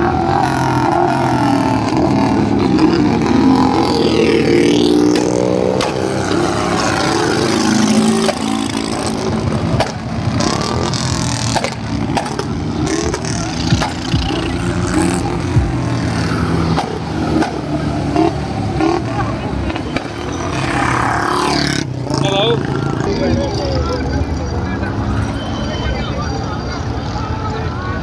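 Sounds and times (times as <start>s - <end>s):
tractor engines revving: 0.0s - 28.0s.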